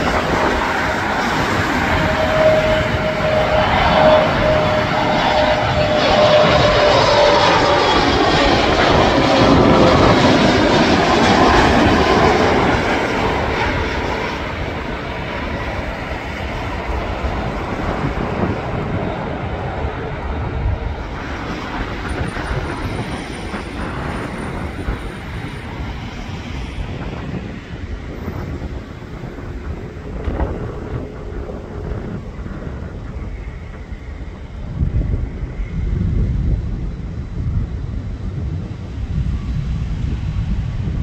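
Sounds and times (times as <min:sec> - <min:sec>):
jet engine rumble: 0:00.0 - 0:41.0.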